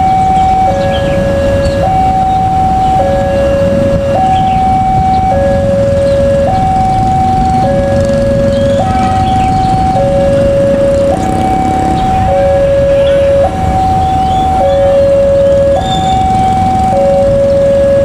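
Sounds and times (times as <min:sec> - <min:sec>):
diesel train rumble: 0:00.0 - 0:18.0
two-tone warning siren: 0:00.0 - 0:18.0.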